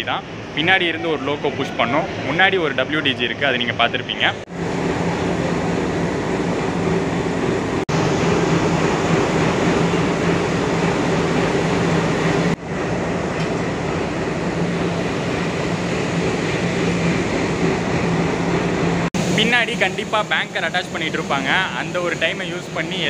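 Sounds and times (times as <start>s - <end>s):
diesel locomotives idling: 2.6s - 23.0s.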